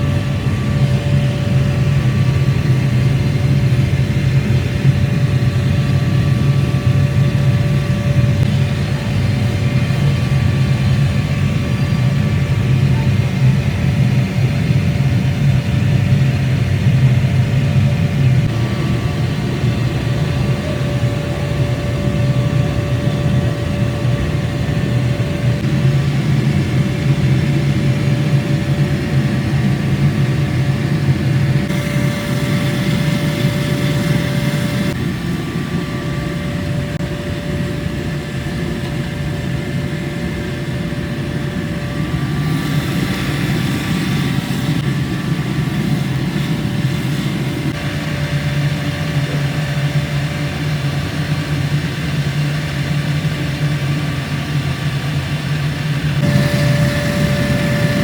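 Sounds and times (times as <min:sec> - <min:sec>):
machinery hum and whine: 0:00.0 - 0:58.0.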